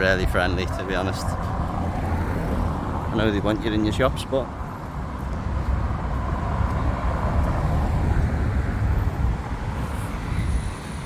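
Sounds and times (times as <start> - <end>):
traffic engine rumble and road noise: 0.0 - 11.0.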